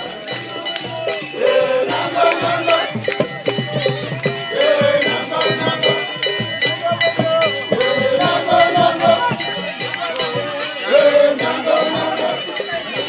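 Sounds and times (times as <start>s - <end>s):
group singing: 0.0s - 13.0s
quick percussion beat: 0.0s - 13.0s.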